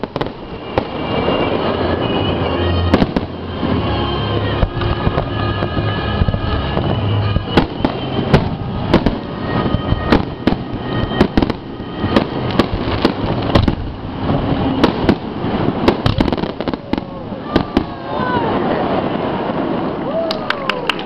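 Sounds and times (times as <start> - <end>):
fireworks bursting bangs: 0.0 - 21.0.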